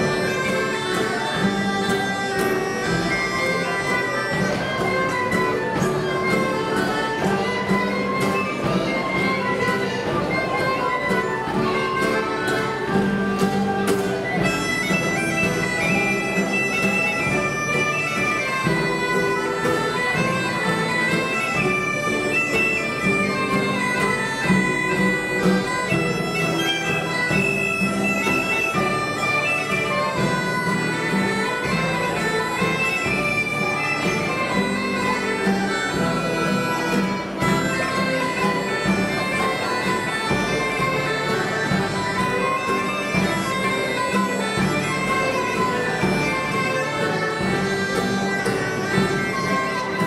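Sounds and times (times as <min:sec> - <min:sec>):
drums beating: 0:00.0 - 0:50.0
pipes playing shrill melody: 0:00.0 - 0:50.0
strummed acoustic guitar: 0:00.0 - 0:50.0.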